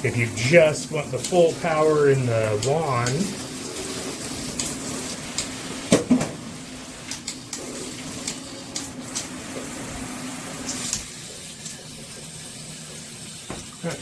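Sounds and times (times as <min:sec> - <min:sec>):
water spraying from shower wand: 0:00.0 - 0:14.0.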